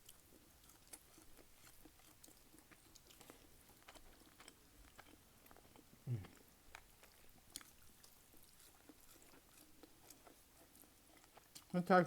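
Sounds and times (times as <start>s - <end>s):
mouth chewing food: 0.0s - 12.0s.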